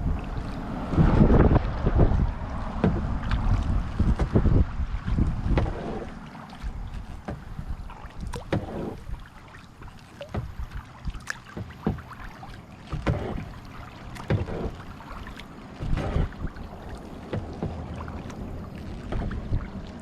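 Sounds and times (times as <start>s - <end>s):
dripping water: 0.0s - 20.0s
paddle strokes splashing in water: 0.0s - 20.0s.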